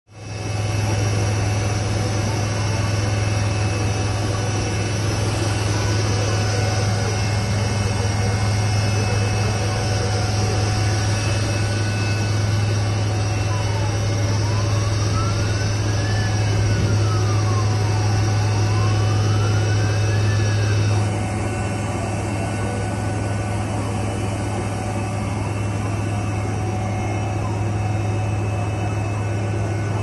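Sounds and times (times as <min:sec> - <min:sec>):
helicopter engine and rotor drone: 0:00.1 - 0:30.0
faint siren-like tone: 0:00.2 - 0:30.0.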